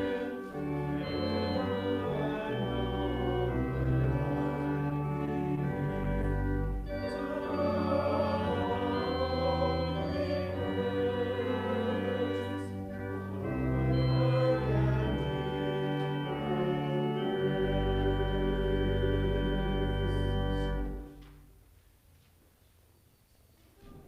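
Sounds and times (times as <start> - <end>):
congregation singing: 0.0 - 21.2
church organ playing chords: 0.0 - 21.4.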